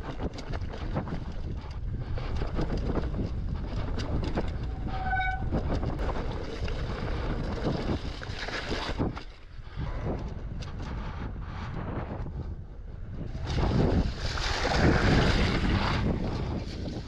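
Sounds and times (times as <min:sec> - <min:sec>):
bike rattling over rough ground: 0:00.0 - 0:17.0
wind rumbling on microphone: 0:00.0 - 0:17.0.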